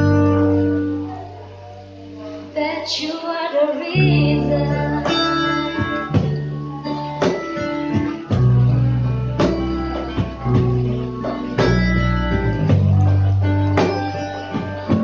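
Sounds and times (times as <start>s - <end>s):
sustained bass: 0.0s - 2.6s, 4.0s - 15.0s
guitar strummed: 0.0s - 15.0s.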